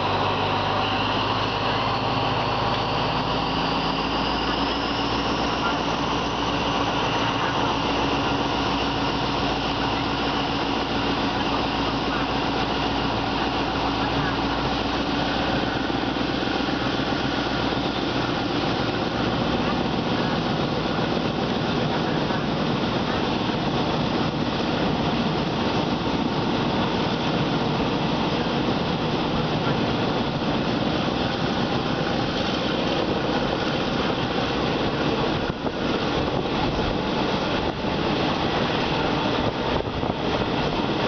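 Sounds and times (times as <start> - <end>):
rushing air: 0.0 - 41.0
train wheels rumbling on rail: 0.0 - 41.0.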